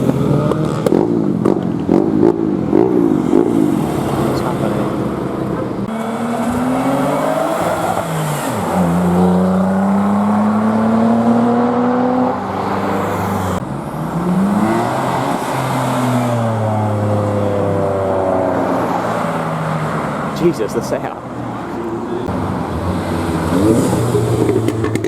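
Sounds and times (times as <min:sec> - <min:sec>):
car engines accelerating hard: 0:00.0 - 0:25.0.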